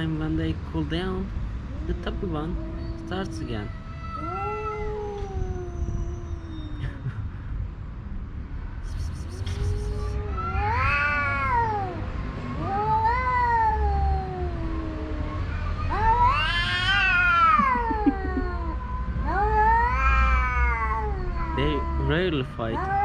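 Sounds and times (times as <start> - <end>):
cats yowling: 1.7 - 7.0, 9.0 - 23.0.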